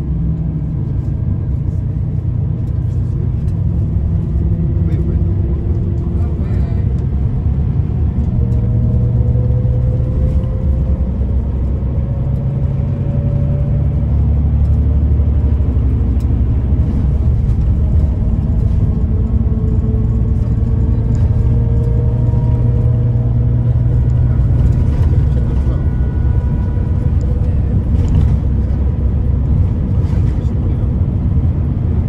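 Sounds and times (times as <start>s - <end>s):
diesel engine drone: 0.0s - 32.0s
tyre and road noise: 0.0s - 32.0s.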